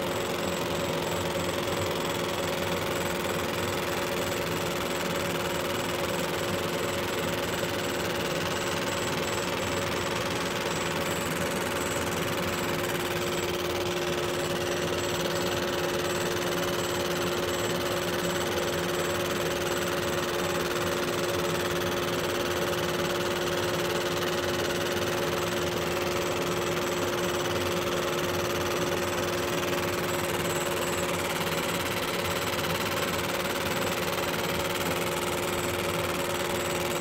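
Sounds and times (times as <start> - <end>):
laser engraver humming: 0.0 - 37.0.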